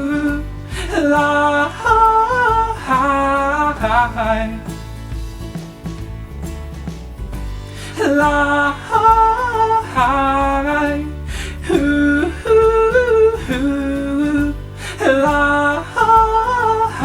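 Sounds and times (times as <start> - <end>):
man singing wordless melody: 0.0 - 5.0, 7.8 - 17.0
guitar accompaniment: 0.0 - 17.0.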